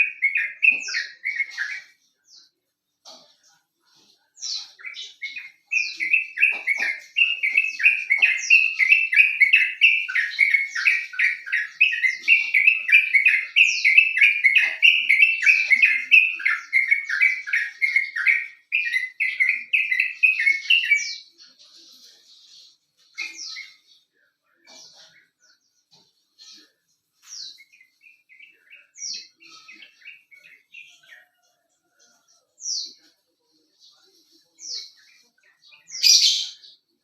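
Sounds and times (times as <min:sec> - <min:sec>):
bird chattering song: 0:00.0 - 0:37.0.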